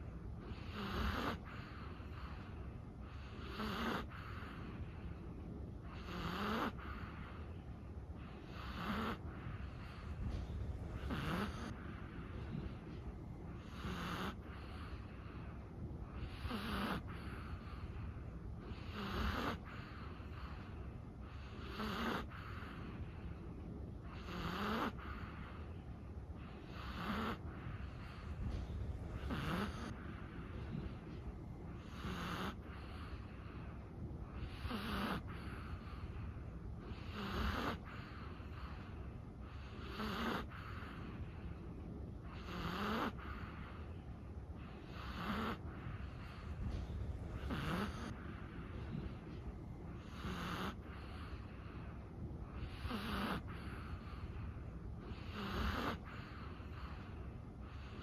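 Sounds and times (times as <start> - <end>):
dog snoring softly: 0.0 - 58.0.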